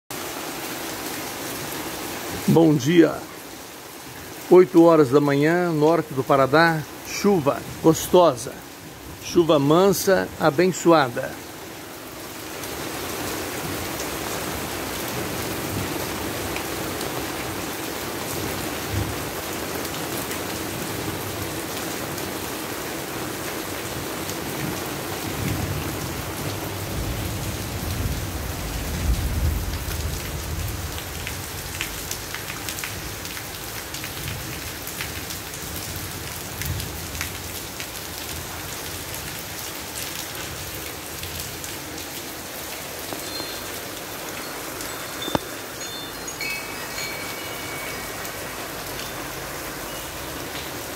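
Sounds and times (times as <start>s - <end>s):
gentle rain on roofs: 0.1s - 50.9s.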